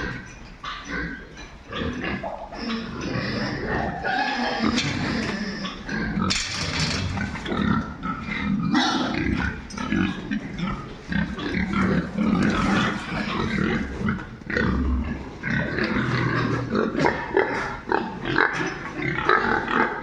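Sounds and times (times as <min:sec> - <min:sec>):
pigs grunting: 0:00.0 - 0:20.0
pigs squealing: 0:00.0 - 0:20.0.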